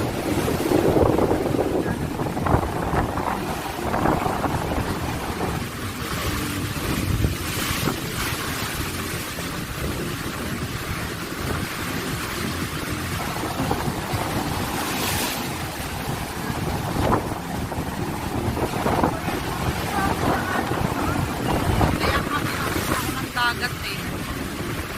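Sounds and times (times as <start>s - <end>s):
rough sea waves rushing: 0.0s - 24.9s
wind buffeting microphone: 0.0s - 24.9s.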